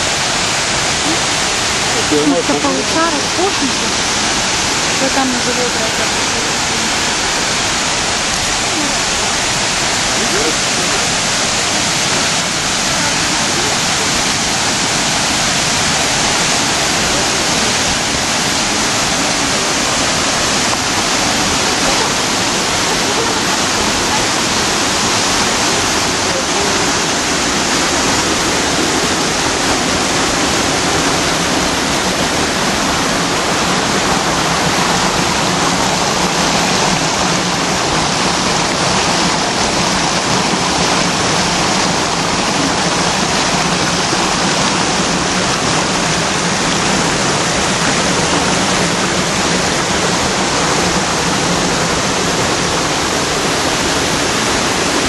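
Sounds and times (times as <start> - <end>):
waterfall rushing over rocks: 0.0 - 55.0.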